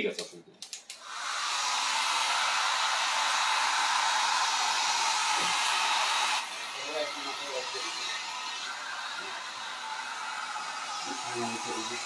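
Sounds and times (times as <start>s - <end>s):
hair dryer blowing: 1.0s - 12.0s.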